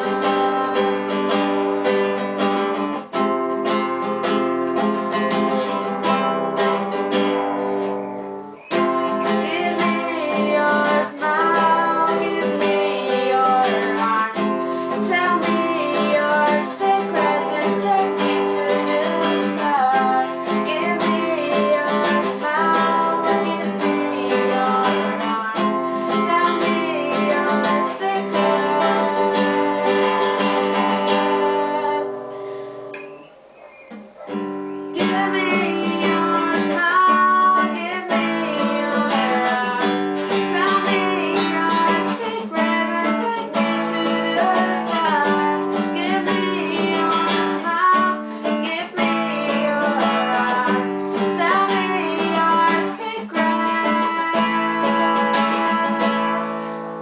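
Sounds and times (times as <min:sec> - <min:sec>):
woman singing: 0:00.0 - 0:33.0, 0:34.9 - 0:57.0
strummed classical guitar: 0:00.0 - 0:57.0.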